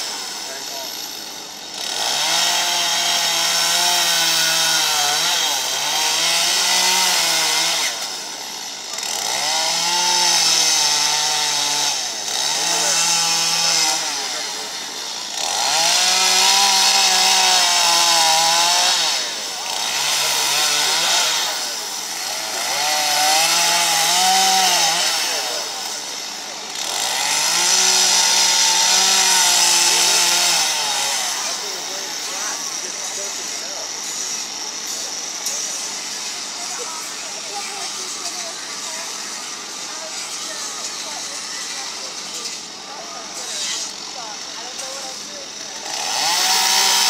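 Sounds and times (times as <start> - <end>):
chainsaw revving and cutting wood: 0.0 - 47.0.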